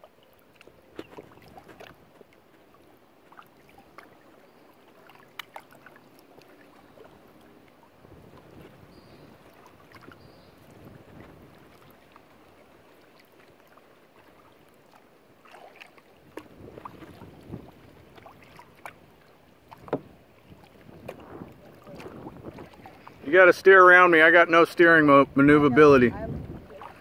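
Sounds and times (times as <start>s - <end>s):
paddle splashing and dripping: 0.0s - 27.0s.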